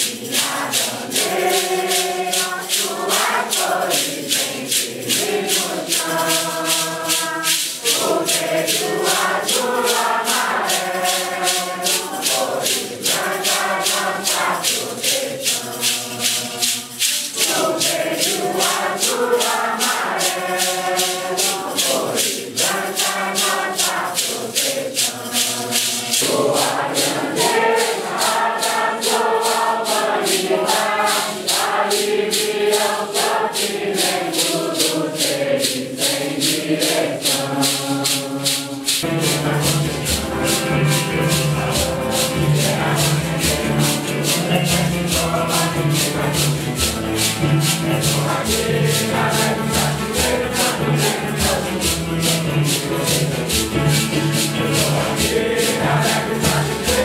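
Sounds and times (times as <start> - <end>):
congregation singing a hymn: 0.0 - 57.0
maracas shaking: 0.0 - 57.0.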